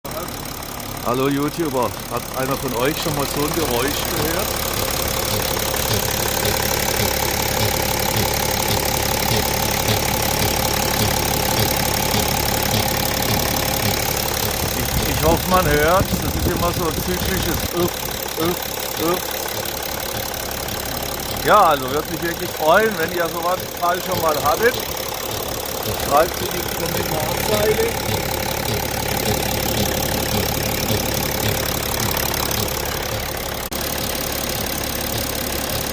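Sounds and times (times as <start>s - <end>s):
car engine humming: 0.0s - 35.9s
cyclic low pulsing: 1.6s - 35.9s.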